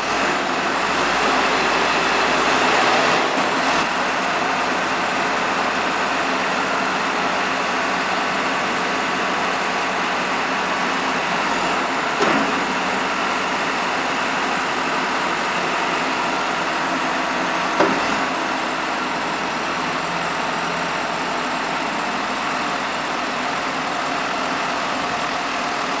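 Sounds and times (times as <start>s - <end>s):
loader engine running: 0.0s - 26.0s.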